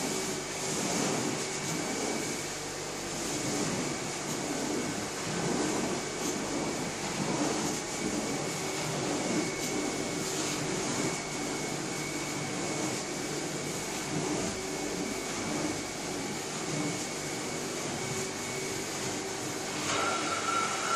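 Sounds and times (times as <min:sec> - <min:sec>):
carpet cleaning machine whine: 0:00.0 - 0:20.9.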